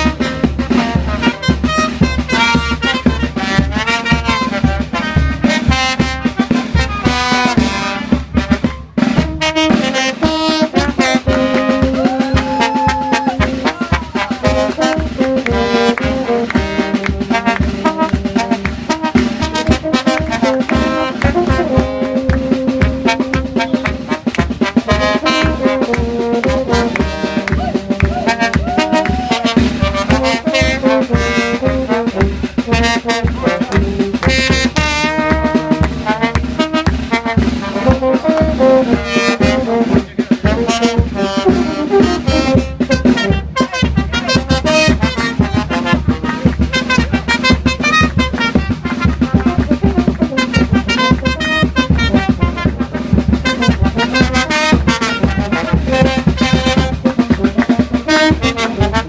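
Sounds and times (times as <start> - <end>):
steady drum beat: 0.0 - 59.0
trumpets and trombones playing: 0.0 - 59.0.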